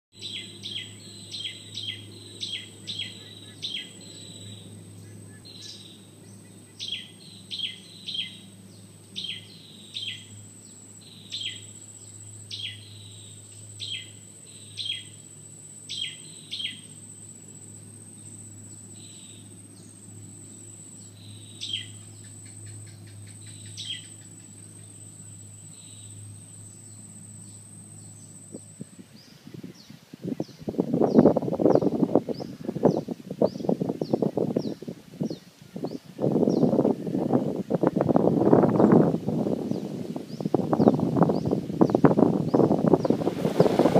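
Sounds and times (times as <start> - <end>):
faint low hum: 0.2 - 43.9
high-pitched insect whine: 0.2 - 43.9.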